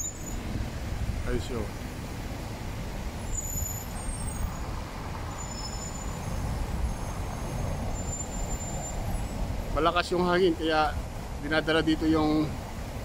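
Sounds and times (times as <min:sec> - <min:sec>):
passing traffic: 0:00.0 - 0:13.0
wind rumbling on microphone: 0:00.0 - 0:13.0.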